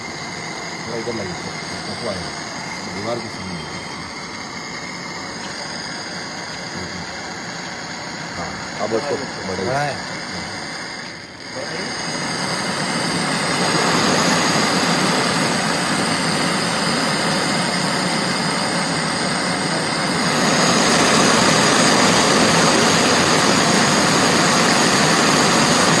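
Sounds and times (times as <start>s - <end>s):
welding torch flame rushing: 0.0s - 26.0s.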